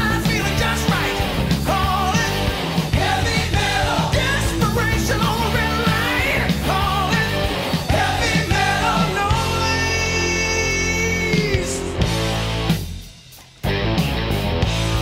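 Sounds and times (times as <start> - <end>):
song with singing: 0.0 - 12.0.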